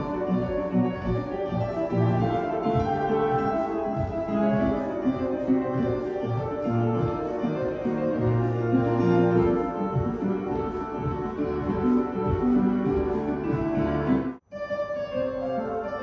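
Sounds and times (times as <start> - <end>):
instrumental classical music: 0.0 - 16.0.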